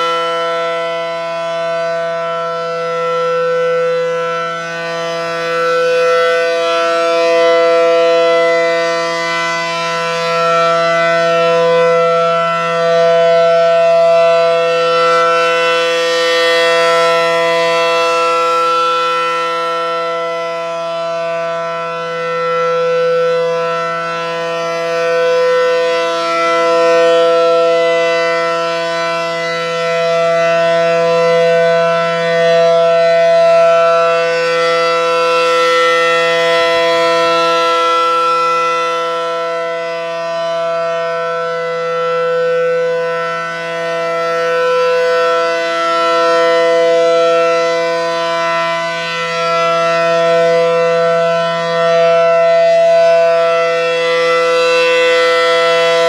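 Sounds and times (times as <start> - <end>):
rotating warning siren: 0.0 - 56.0.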